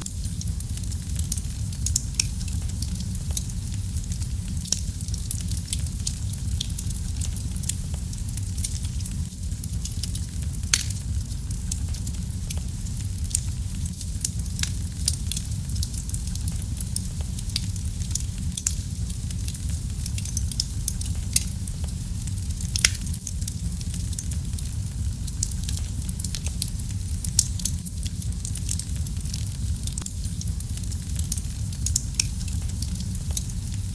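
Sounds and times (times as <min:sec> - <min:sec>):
fire popping and snapping: 0:00.0 - 0:33.9
wood fire crackling: 0:00.0 - 0:33.9.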